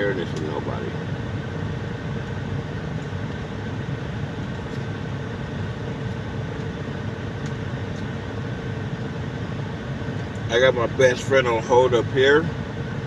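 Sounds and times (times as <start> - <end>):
truck cab rumble and hum: 0.0 - 13.0.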